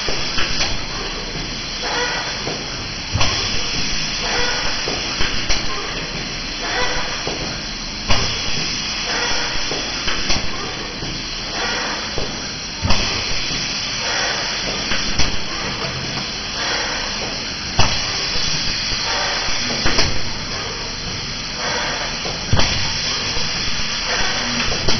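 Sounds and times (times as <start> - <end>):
steady hiss: 0.0 - 24.9.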